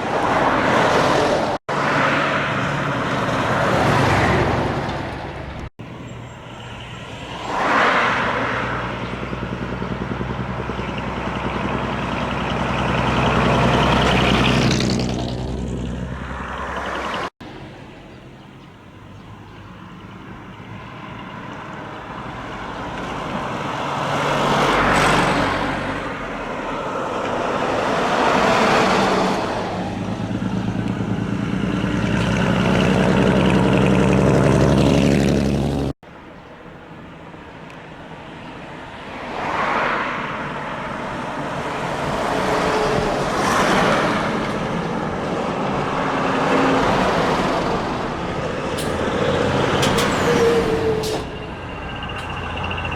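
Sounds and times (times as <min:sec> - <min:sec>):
heavy trucks driving past: 0:00.0 - 0:18.0, 0:19.4 - 0:36.0, 0:38.8 - 0:52.9.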